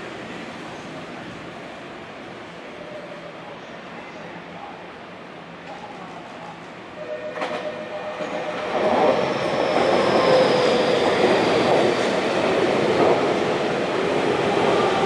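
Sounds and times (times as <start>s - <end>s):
electric train running past: 0.0s - 15.0s.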